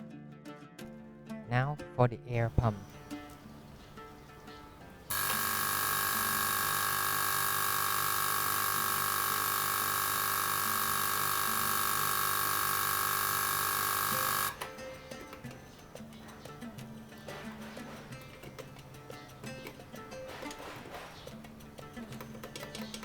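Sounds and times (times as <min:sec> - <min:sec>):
electric air pump humming: 0:02.5 - 0:23.0.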